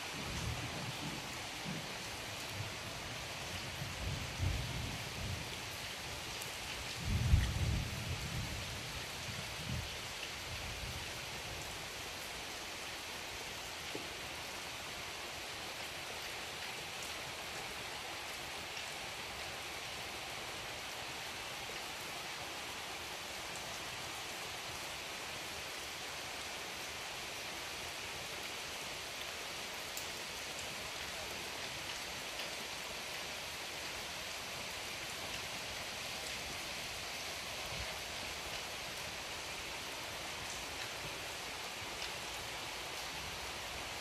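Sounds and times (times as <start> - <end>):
heavy rain hissing: 0.0 - 44.0.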